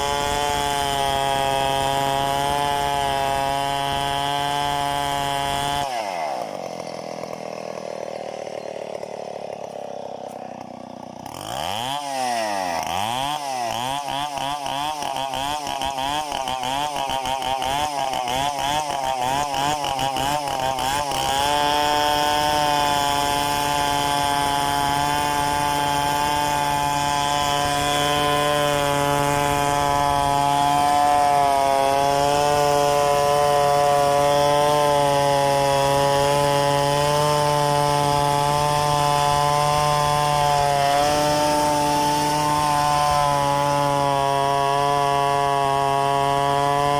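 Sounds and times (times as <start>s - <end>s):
chainsaw revving and cutting wood: 0.0s - 46.9s.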